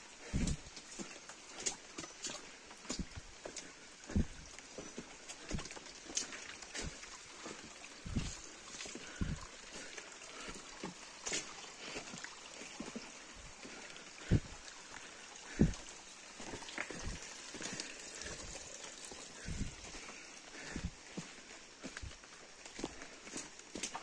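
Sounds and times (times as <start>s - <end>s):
faint trickle of water: 0.0s - 24.0s
footsteps on wet stones and mud: 0.1s - 24.0s.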